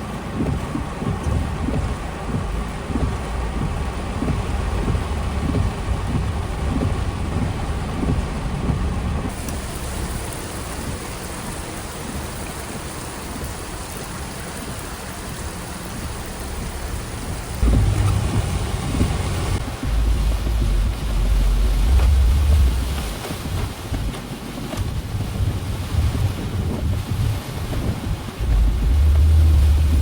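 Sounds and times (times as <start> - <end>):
rain hissing: 0.0 - 30.0
wind buffeting microphone: 0.2 - 30.0.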